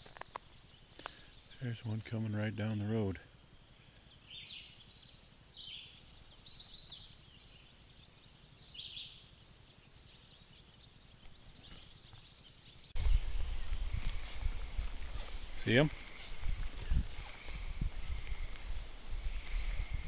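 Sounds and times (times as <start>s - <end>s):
faint outdoor background: 0.0s - 20.0s
songbird chirping: 0.0s - 20.0s.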